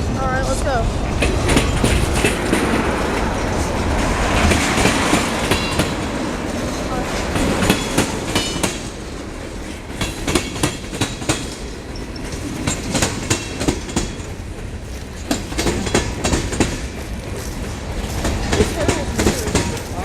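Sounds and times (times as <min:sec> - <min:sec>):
freight train rumbling: 0:00.0 - 0:20.0
wheels clicking over rail joints: 0:00.0 - 0:20.0.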